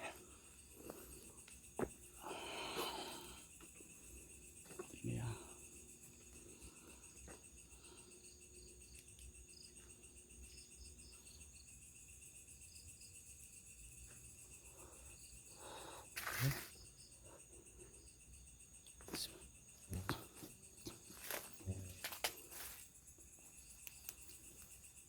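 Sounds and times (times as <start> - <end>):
crickets and insects chirring: 0.0 - 25.0.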